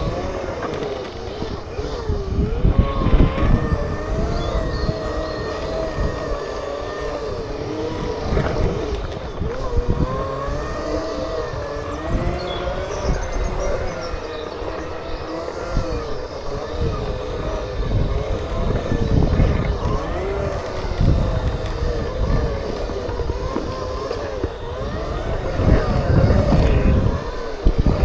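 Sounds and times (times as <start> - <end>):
electric motors whining: 0.0 - 28.0
gusting low rumble: 0.0 - 28.0.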